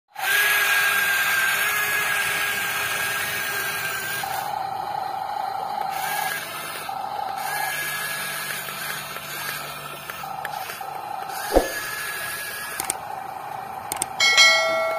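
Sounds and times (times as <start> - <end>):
electric gear motors whining: 0.2 - 14.9.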